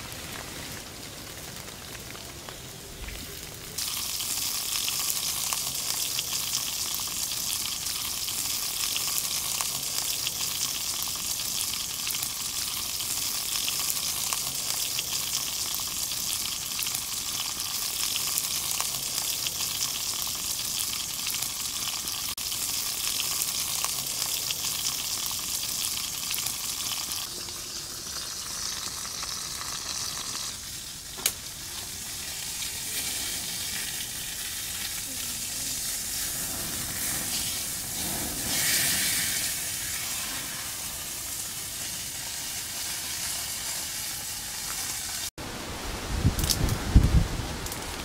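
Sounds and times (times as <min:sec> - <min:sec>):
sizzling hiss in a pan: 0:00.0 - 0:48.0.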